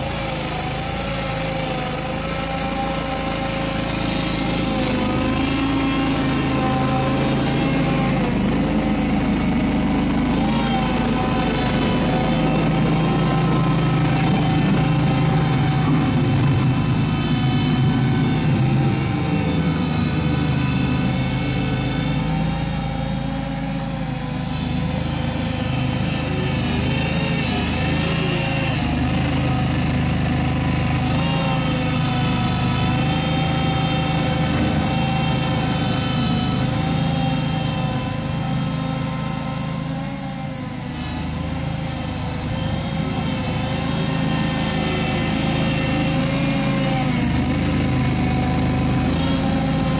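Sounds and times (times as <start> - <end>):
small engine running under load: 0.0 - 49.9.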